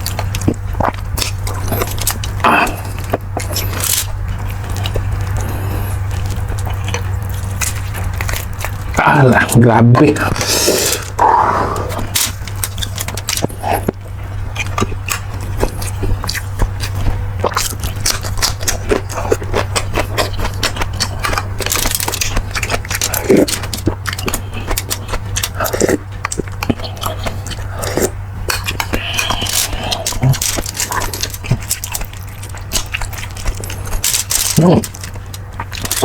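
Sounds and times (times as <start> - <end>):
chewing and lip smacks: 0.0 - 36.0
low hum: 0.0 - 36.0.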